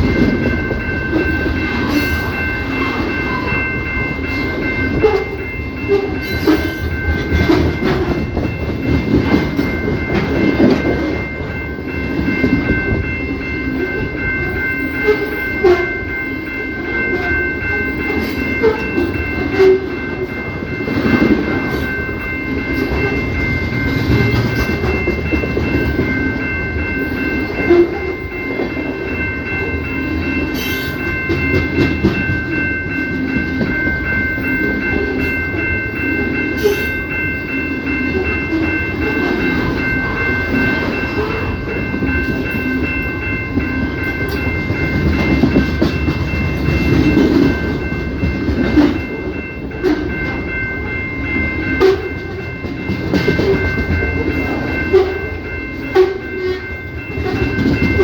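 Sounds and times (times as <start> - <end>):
railcars rumbling past: 0.0 - 58.0.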